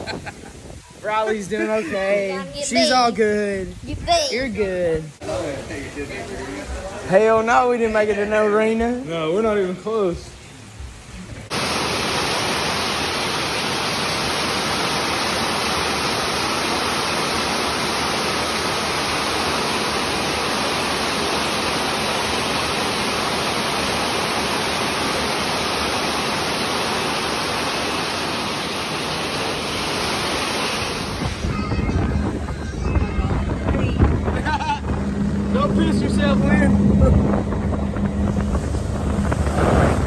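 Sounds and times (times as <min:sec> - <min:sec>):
heavy rain hissing: 0:05.0 - 0:37.2.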